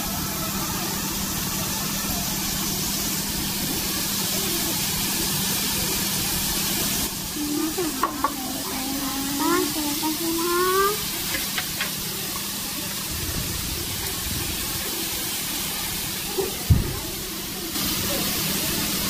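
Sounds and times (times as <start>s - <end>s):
faint voices: 0.0s - 19.0s
food sizzling on hot plate: 0.0s - 19.0s.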